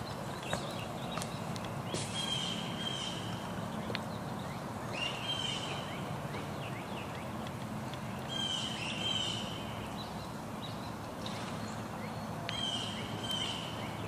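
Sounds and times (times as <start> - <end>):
birds singing: 0.0 - 14.0
outdoor background noise: 0.0 - 14.0.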